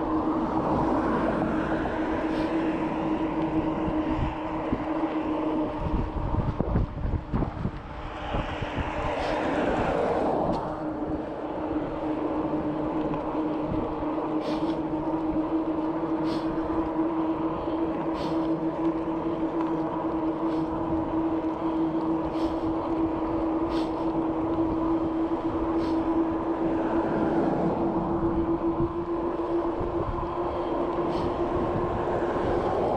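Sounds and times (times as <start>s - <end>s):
bicycle whining hum: 0.0s - 32.9s
rolling road noise: 0.0s - 32.9s.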